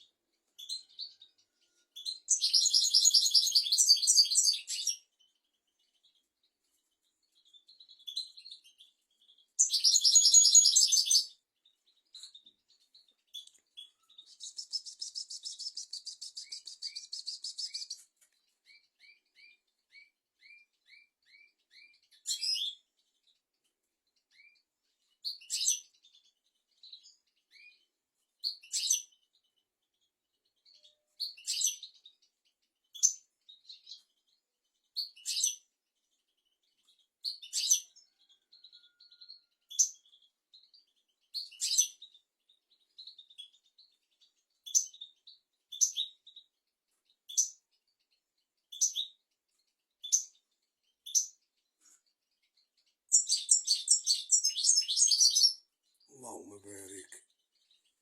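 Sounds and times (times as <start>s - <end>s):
bird chirping and twittering: 0.0s - 58.0s.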